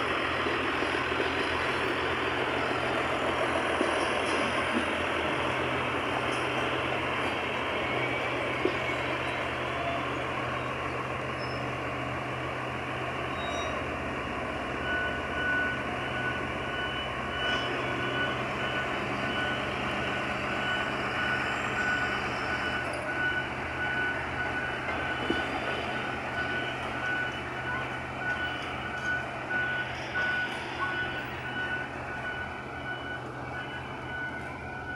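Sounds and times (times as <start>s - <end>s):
diesel engine rumbling: 0.0s - 34.9s.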